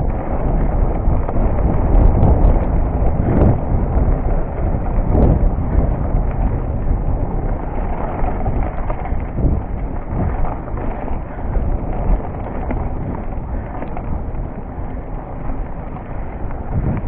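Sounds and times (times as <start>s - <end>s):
bike knocks and rattles: 0.0s - 17.0s
tyres rumbling on dirt trail: 0.0s - 17.0s
wind on microphone: 0.0s - 17.0s.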